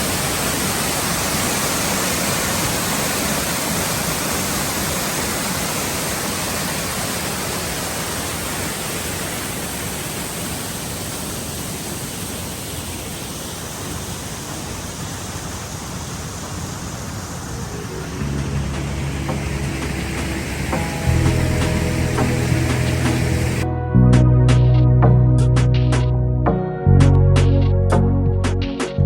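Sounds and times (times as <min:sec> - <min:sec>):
waterfall rushing: 0:00.0 - 0:23.6.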